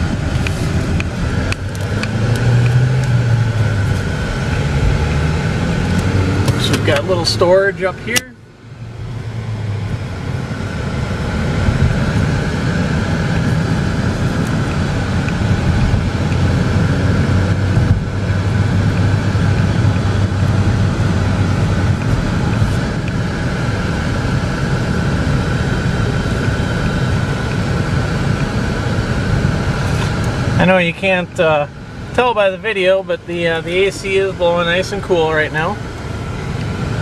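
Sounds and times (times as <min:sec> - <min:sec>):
air conditioning blowing: 0:00.0 - 0:37.0
car engine drone: 0:00.0 - 0:37.0
tyre and road noise: 0:00.0 - 0:37.0.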